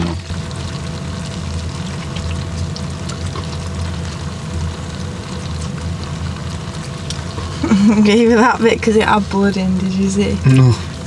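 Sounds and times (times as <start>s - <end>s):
pan cooking rumble and hiss: 0.0s - 11.0s.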